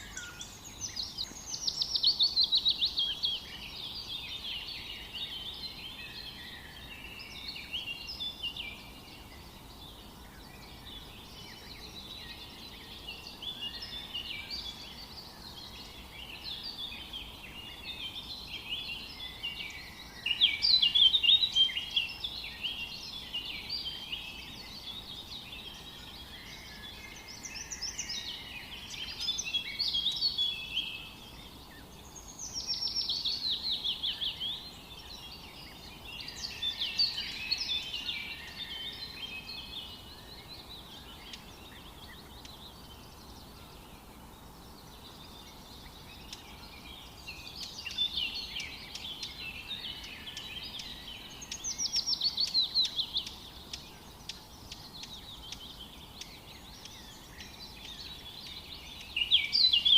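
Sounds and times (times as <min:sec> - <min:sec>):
birds chirping and trilling: 0:00.0 - 0:59.9
faint background hiss: 0:00.0 - 0:59.9.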